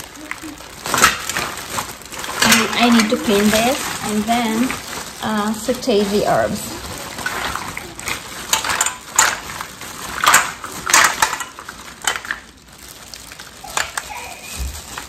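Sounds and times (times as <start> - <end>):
mussel shells clattering in metal pot: 0.0 - 15.0
plastic bag crinkling: 0.0 - 15.0.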